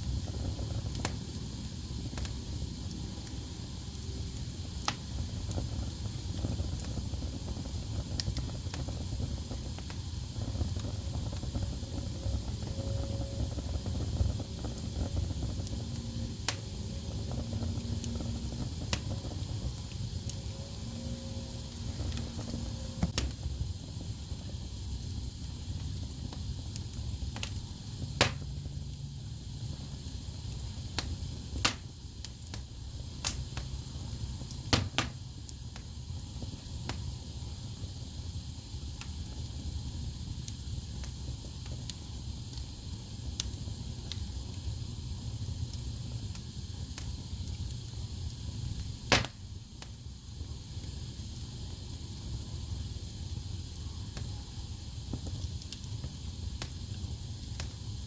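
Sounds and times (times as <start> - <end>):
logs crackling and popping: 0.0 - 38.1, 38.9 - 58.0
low rumble of flames: 0.0 - 58.0.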